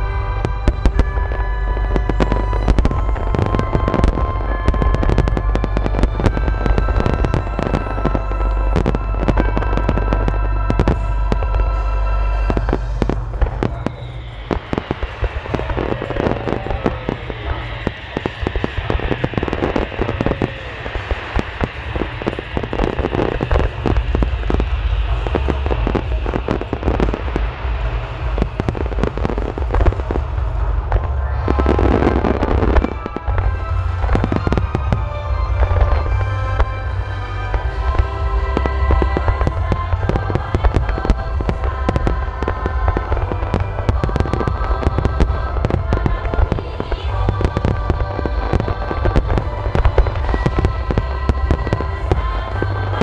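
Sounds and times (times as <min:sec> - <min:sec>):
fireworks bursting and crackling: 0:00.0 - 0:53.0
heavy booms: 0:00.0 - 0:53.0
music: 0:00.0 - 0:53.0.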